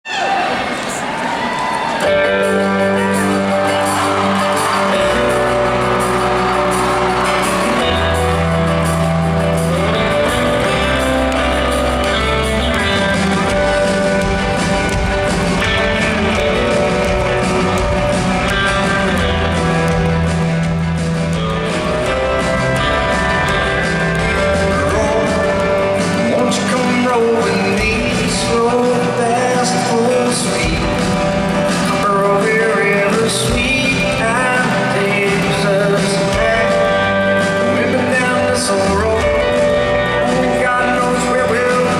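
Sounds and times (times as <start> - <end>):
live band playing country music: 0.1 - 41.9.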